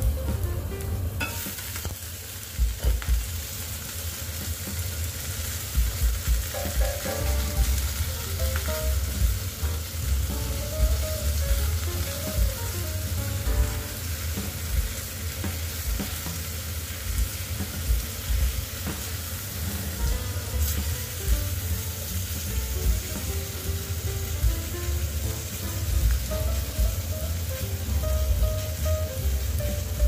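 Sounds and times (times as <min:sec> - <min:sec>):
chicken sizzling in pot: 0:00.0 - 0:30.0.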